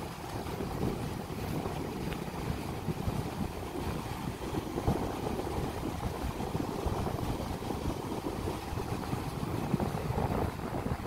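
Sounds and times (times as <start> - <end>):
small waves washing on shore: 0.0 - 11.0
wind buffeting microphone: 0.0 - 11.0.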